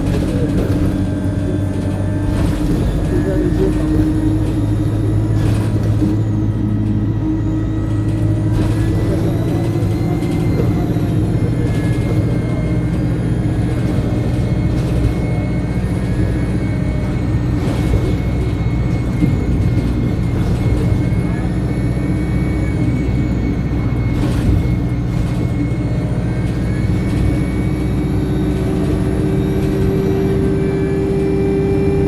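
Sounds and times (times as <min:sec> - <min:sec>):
bus diesel engine drone: 0:00.0 - 0:32.0
high turbocharger whine: 0:00.0 - 0:32.0.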